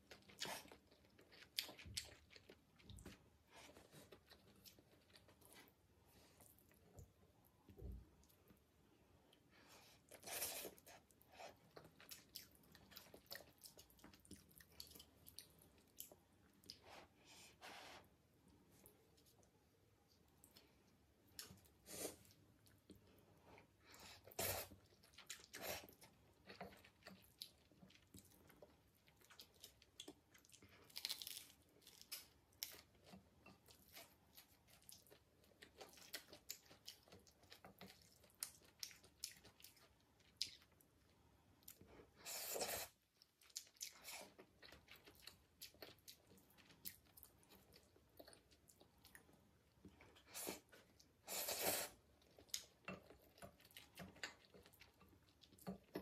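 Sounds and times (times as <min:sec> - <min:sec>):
person chewing noodles: 0:00.0 - 0:07.1, 0:09.3 - 0:17.4, 0:18.7 - 0:56.0.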